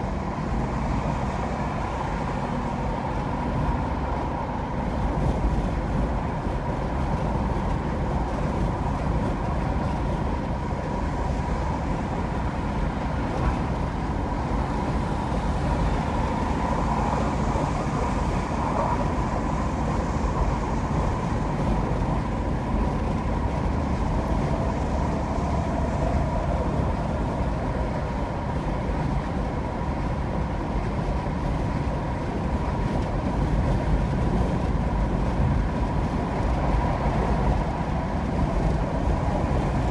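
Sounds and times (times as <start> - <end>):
tyre and road noise: 0.0 - 39.9.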